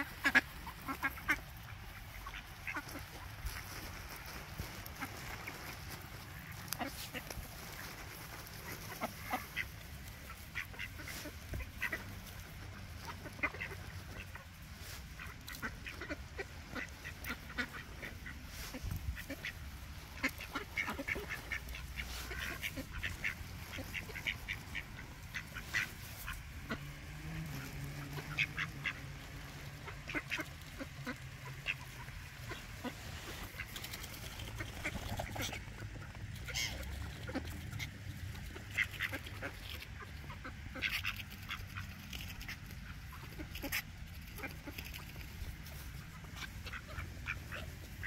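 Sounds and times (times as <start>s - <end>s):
low steady rumble: 0.0s - 48.0s.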